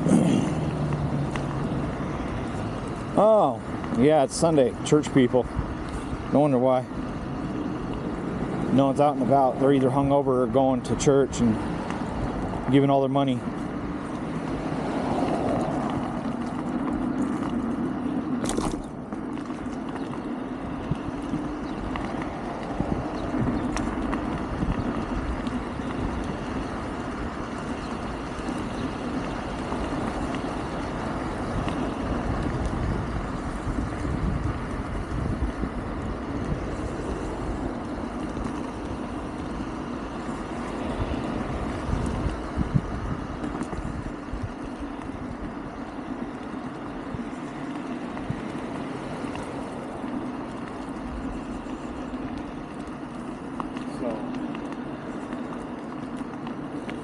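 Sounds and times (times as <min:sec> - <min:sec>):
electric scooter hum: 0:00.0 - 0:57.0
road noise: 0:00.0 - 0:57.0
wind buffeting microphone: 0:00.0 - 0:57.0.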